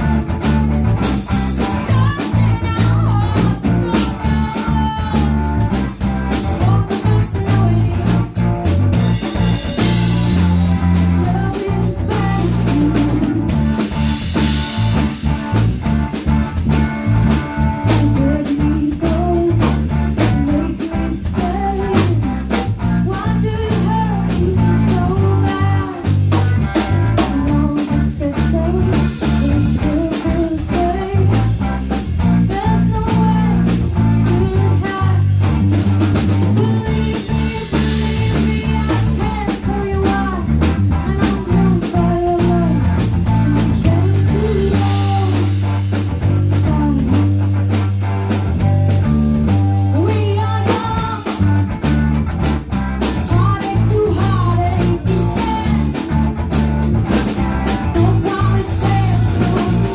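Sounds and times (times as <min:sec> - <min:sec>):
driving drum kit: 0:00.0 - 0:59.9
guitar with bending notes: 0:00.0 - 0:59.9
low bass line: 0:00.0 - 0:59.9.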